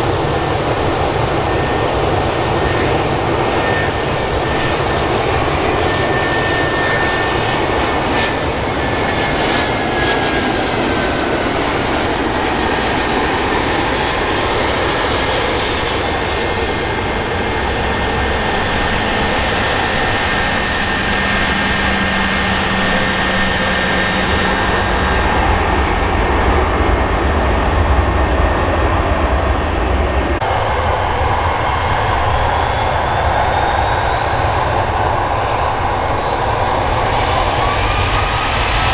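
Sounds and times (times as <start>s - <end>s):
low engine rumble: 0.0s - 38.8s
jet engines roaring: 0.0s - 38.9s.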